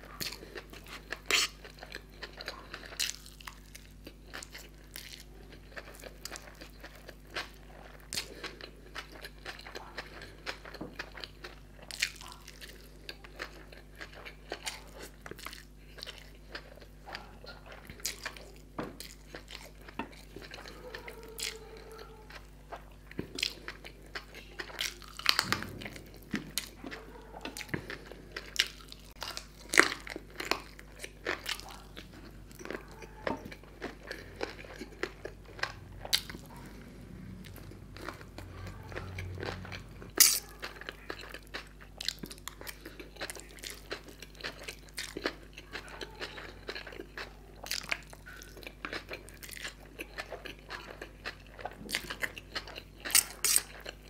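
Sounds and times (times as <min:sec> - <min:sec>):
close-miked chewing and biting: 0:00.0 - 0:54.0.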